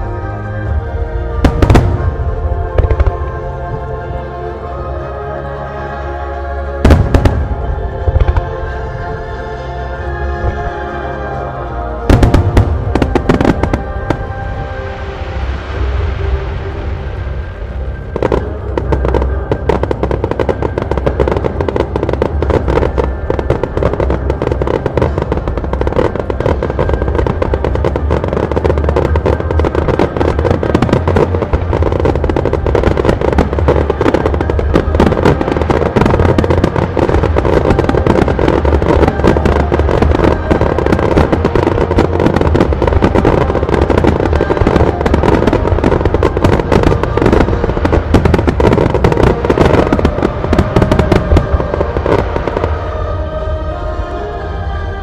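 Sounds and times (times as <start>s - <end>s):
fireworks bursting and crackling: 0.0s - 4.2s, 6.6s - 9.2s, 10.0s - 53.6s
show music: 0.0s - 55.0s.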